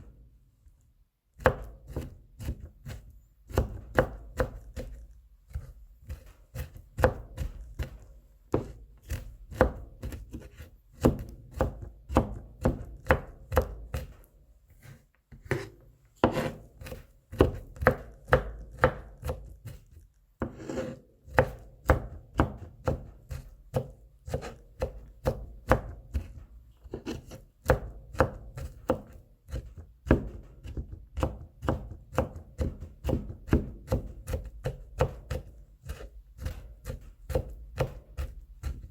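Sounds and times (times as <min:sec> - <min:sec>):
knife chopping on cutting board: 0:01.4 - 0:14.2, 0:14.8 - 0:38.9.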